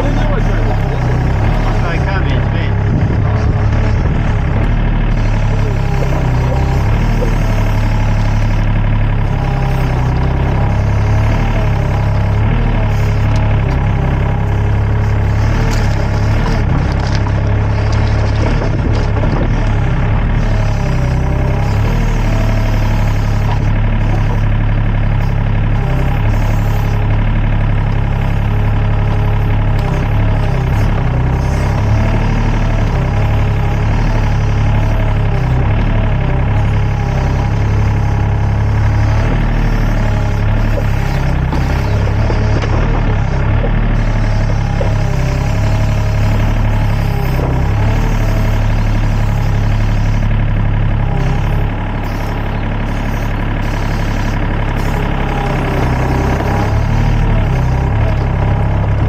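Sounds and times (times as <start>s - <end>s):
excavator diesel engine humming: 0.0s - 59.0s
hydraulic whine: 0.0s - 59.0s.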